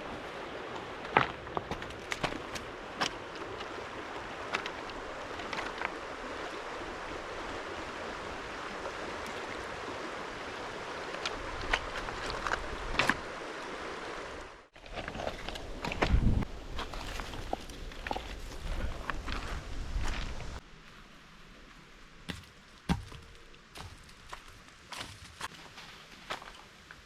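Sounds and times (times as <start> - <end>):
river water running: 0.0 - 27.0.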